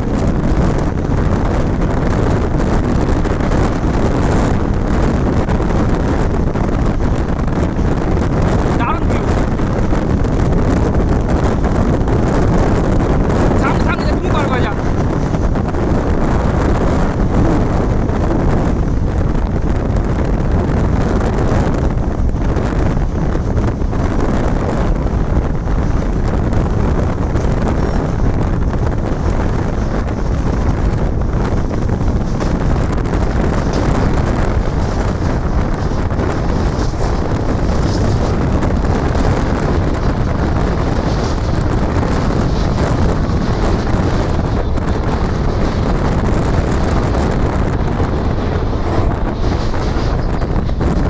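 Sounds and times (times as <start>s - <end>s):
train running on track: 0.0s - 51.0s
wind buffeting microphone: 0.0s - 51.0s.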